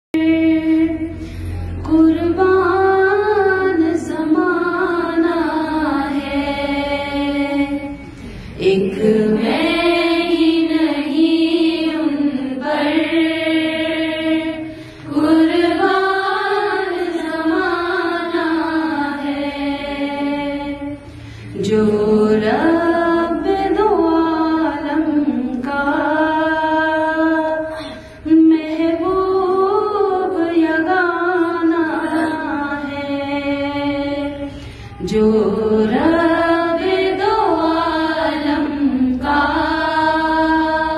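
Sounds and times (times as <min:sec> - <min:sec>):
woman singing unaccompanied: 0:00.1 - 0:40.9.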